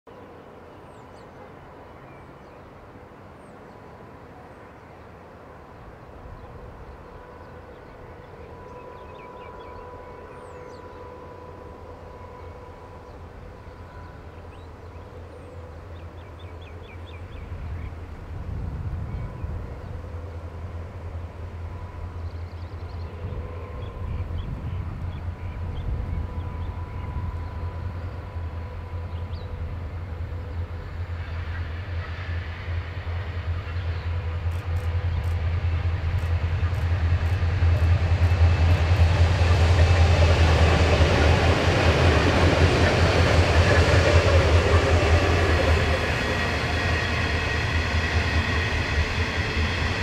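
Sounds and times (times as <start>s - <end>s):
diesel locomotive engine rumble: 0.2s - 50.0s.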